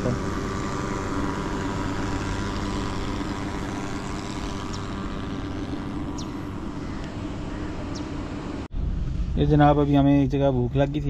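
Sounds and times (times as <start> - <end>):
fogging machine buzzing: 0.0 - 9.4.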